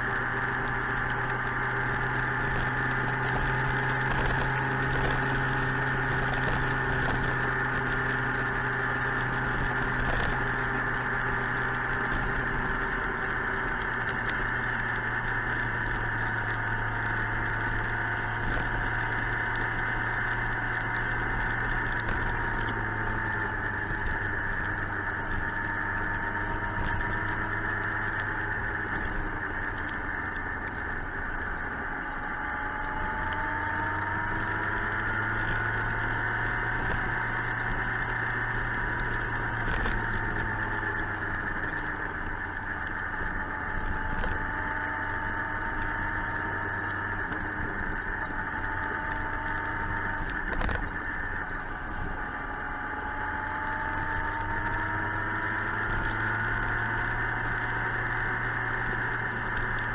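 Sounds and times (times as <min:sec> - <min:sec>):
motorcycle engine running: 0:00.0 - 0:59.9
sharp ticks and crackles: 0:00.0 - 0:59.9.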